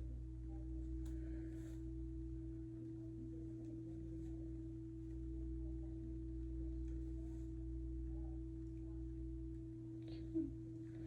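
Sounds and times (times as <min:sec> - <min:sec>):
constant mid-pitched tone: 0:00.0 - 0:11.0
steady background hum: 0:00.0 - 0:11.0.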